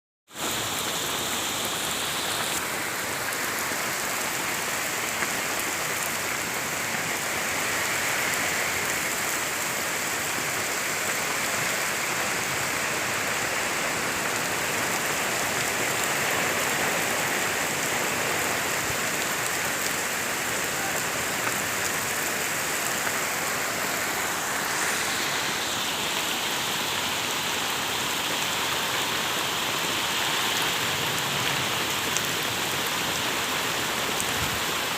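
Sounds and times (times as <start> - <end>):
heavy rain falling: 0.3 - 34.9.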